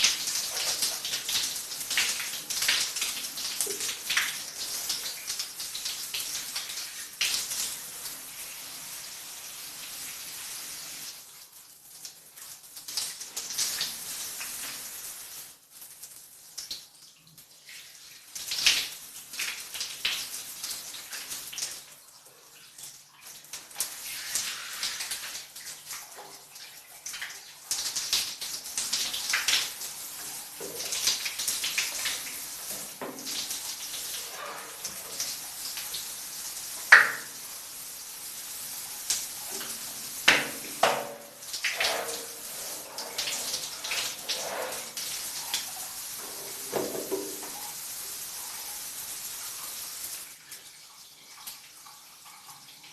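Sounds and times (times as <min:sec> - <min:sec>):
shower water splashing: 0:00.0 - 0:52.9.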